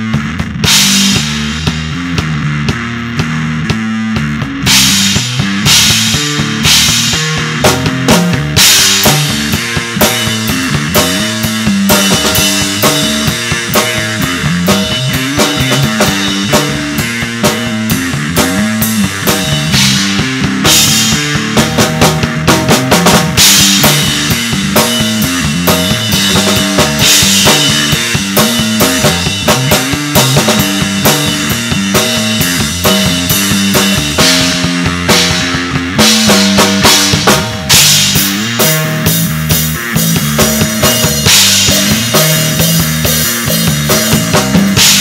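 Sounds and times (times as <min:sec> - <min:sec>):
rock band playing loudly: 0:00.0 - 0:45.0.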